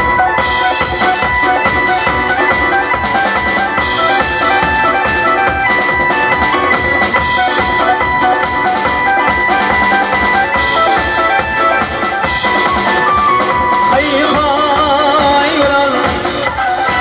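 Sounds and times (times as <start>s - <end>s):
drum kit beat: 0.0s - 17.0s
electronic keyboard melody: 0.0s - 17.0s.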